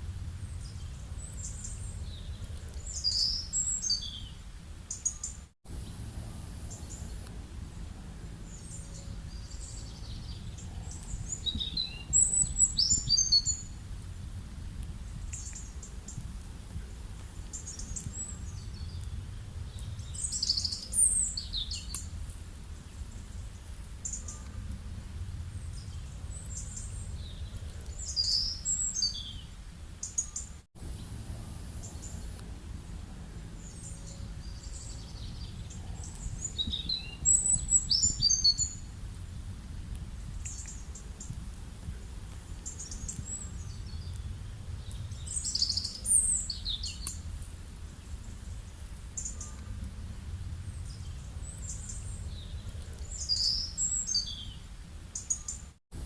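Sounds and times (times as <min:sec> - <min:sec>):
low rural rumble: 0:00.0 - 0:30.1, 0:30.7 - 0:55.3
songbirds chirping: 0:00.0 - 0:56.0.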